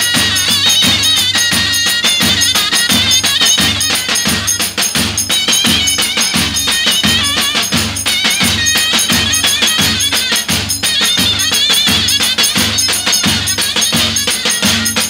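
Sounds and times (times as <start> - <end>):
bass drums beating dance rhythm: 0.0 - 15.0
shrill zurna folk melody: 0.0 - 15.0.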